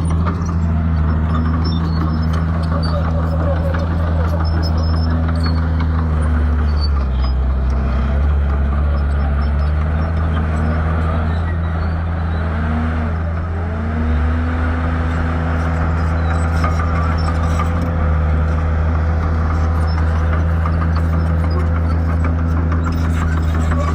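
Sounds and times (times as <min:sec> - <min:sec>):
bulldozer diesel engine running hard: 0:00.0 - 0:23.9.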